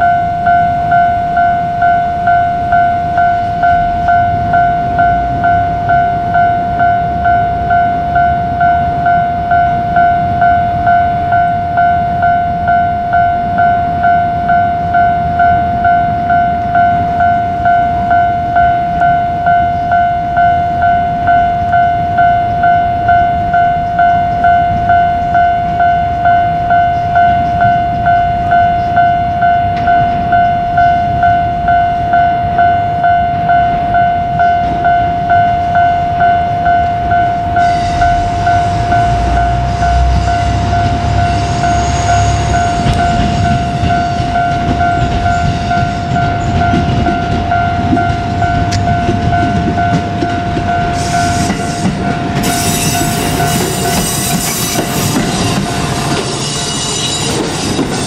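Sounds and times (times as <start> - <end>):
level crossing bell ringing: 0.0 - 57.4
diesel railcar engine rumble: 0.0 - 58.0
train wheel and rail noise: 0.0 - 58.0.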